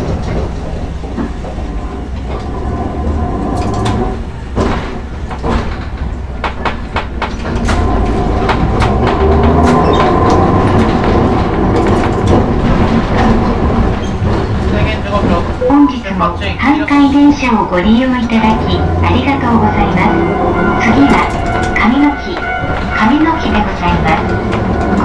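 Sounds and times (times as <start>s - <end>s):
tram motor rumble and whine: 0.0s - 25.0s
wheels clicking over rail joints: 0.0s - 25.0s.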